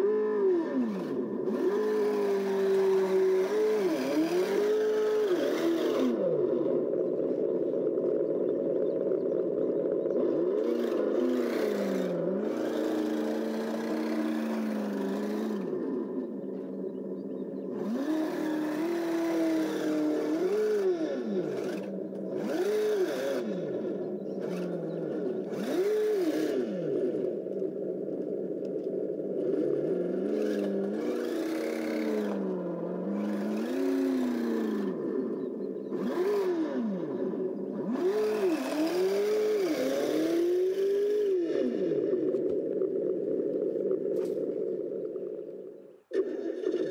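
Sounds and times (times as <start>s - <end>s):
simulated engine revving: 0.0s - 46.9s.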